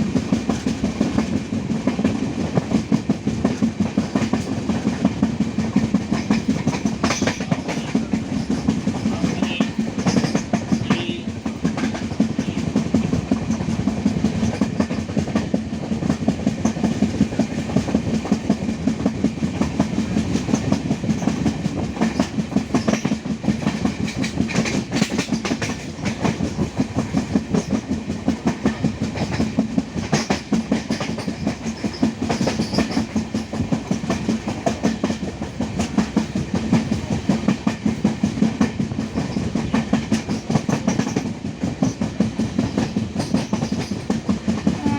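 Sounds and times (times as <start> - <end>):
train carriage low rumble: 0.0 - 44.9
train wheels clattering on track: 0.0 - 44.9.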